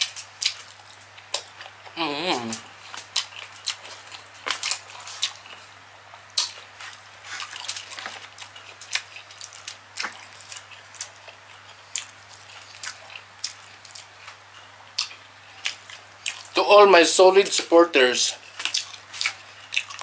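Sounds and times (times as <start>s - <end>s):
wet chewing and mouth smacks: 0.0s - 16.6s, 18.5s - 20.0s.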